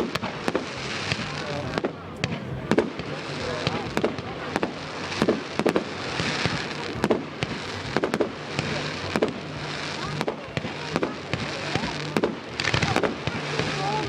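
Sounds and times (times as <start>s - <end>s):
fireworks bangs: 0.0s - 14.0s
fireworks crackling hiss: 0.0s - 14.0s.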